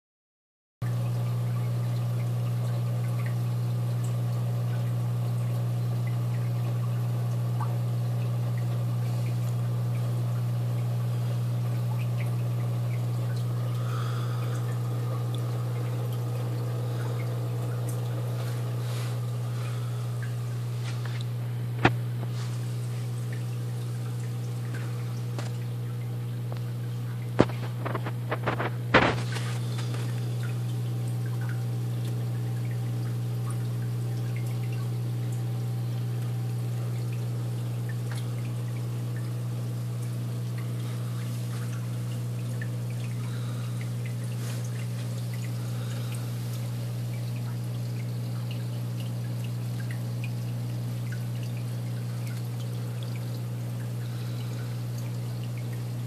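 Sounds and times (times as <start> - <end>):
aquarium filter humming: 0.8 - 56.0
water pouring into tank: 0.9 - 56.0.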